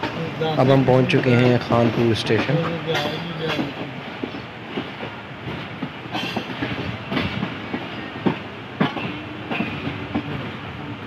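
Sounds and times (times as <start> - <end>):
wheels clacking over rail joints: 0.0 - 10.7
train wheels rumbling on track: 0.0 - 11.0.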